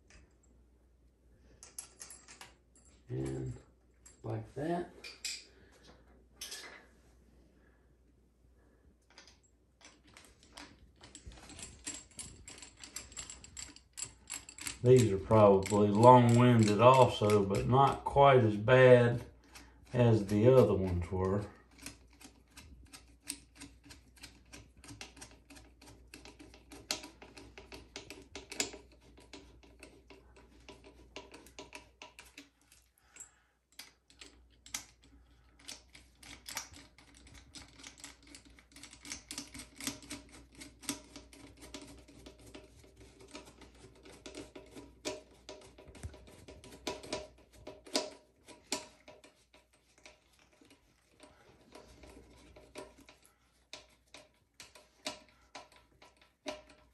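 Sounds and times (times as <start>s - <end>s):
screwdriver clicks and scrapes: 9.1s - 17.7s, 19.4s - 56.9s.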